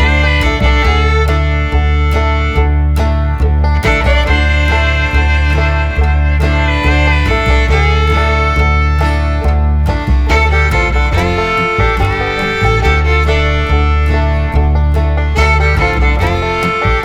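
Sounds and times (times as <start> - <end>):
fiddle: 0.0 - 17.0
strummed guitar: 0.0 - 17.0.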